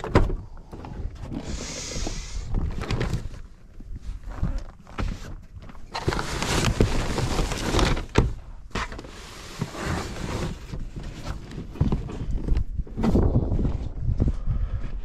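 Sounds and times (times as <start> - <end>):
plastic tote rustling and scraping: 0.8 - 13.9.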